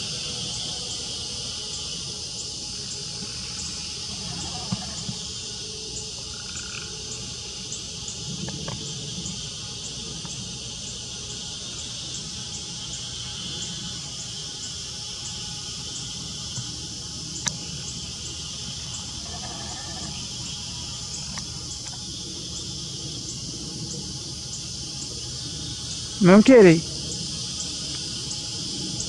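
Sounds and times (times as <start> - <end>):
cricket chirping: 0.0 - 29.0
insects buzzing: 0.0 - 29.0.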